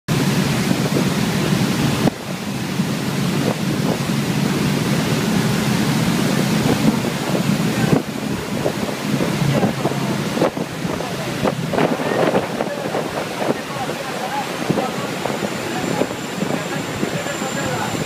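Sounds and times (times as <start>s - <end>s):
boat engine running: 0.1s - 18.0s
motorboat wake rushing: 0.1s - 18.0s
wind buffeting microphone: 0.1s - 18.0s.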